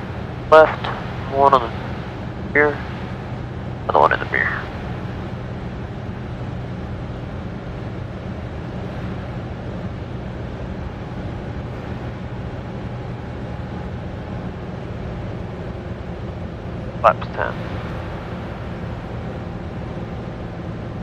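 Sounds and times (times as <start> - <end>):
aircraft propeller engine droning: 0.0 - 21.0.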